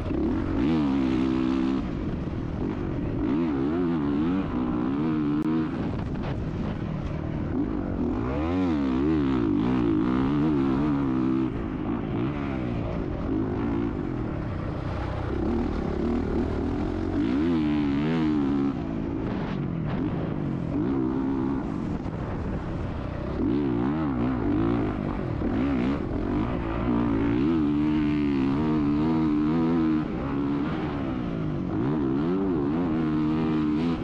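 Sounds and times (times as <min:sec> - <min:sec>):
motocross bike engine revving: 0:00.0 - 0:06.0, 0:07.5 - 0:21.9, 0:23.0 - 0:34.0.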